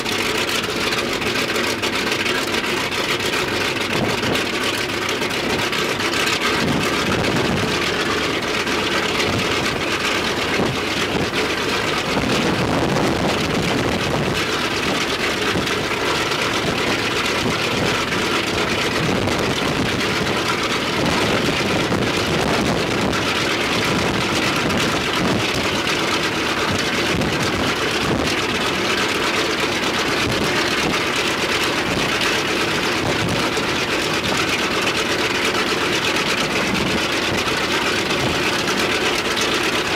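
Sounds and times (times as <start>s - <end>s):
radial piston engine running: 0.0s - 39.9s.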